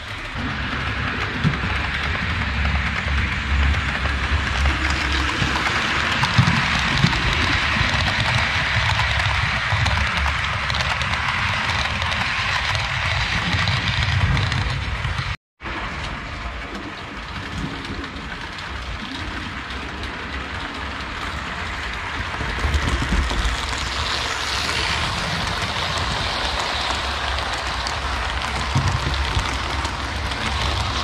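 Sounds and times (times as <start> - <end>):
model train clicks on track: 0.0 - 31.0.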